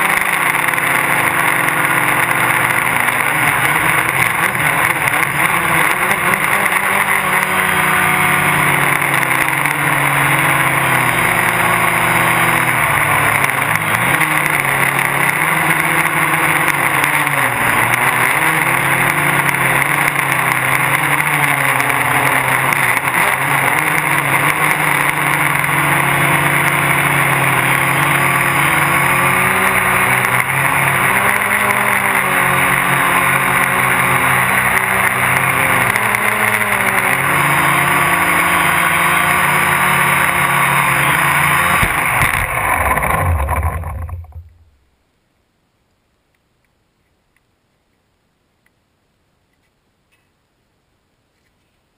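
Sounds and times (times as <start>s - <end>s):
quadcopter propellers whirring: 0.0s - 44.6s.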